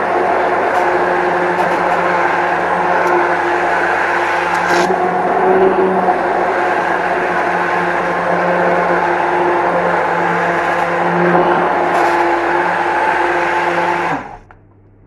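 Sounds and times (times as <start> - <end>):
electric blender motor running: 0.0 - 14.5.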